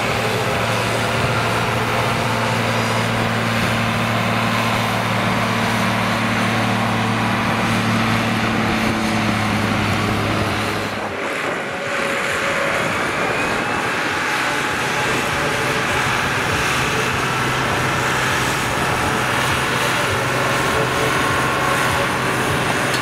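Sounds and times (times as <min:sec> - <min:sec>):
tractor diesel engine drone: 0:00.0 - 0:23.0.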